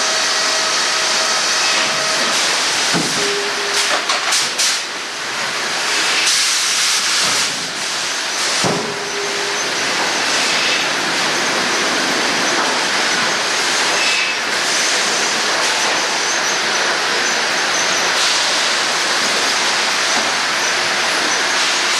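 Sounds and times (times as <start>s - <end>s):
sawmill machinery running: 0.0s - 21.9s.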